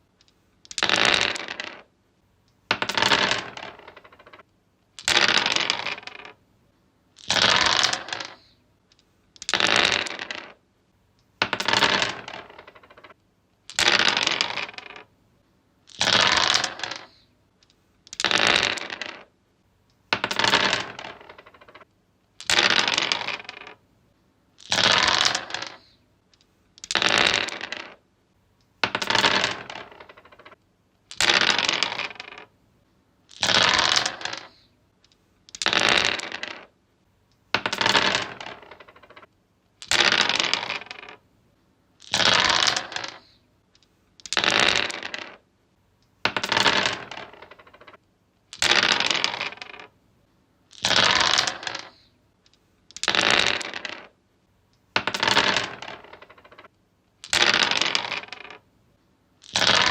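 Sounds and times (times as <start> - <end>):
dice clattering on wood: 0.2 - 1.9, 2.7 - 4.4, 5.0 - 6.4, 7.2 - 10.6, 11.4 - 15.1, 15.9 - 19.3, 20.1 - 21.8, 22.4 - 23.8, 24.6 - 28.0, 28.8 - 32.5, 33.3 - 36.8, 37.4 - 41.2, 42.0 - 45.4, 46.2 - 50.0, 50.7 - 54.2, 54.8 - 58.6, 59.4 - 59.9.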